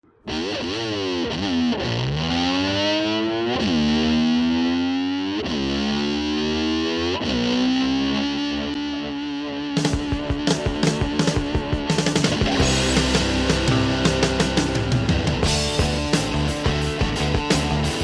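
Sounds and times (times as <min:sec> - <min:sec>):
distorted slide electric guitar: 0:00.0 - 0:18.0.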